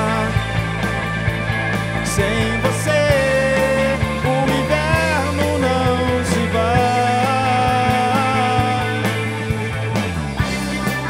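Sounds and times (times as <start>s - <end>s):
bending melody line: 0.0s - 11.0s
drums: 0.0s - 11.0s
electric bass: 0.0s - 11.0s
electric guitars: 0.0s - 11.0s.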